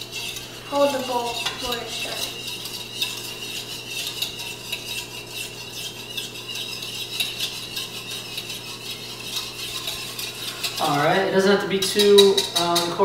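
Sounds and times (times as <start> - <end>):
whisk clicking against bowl: 0.0 - 13.0.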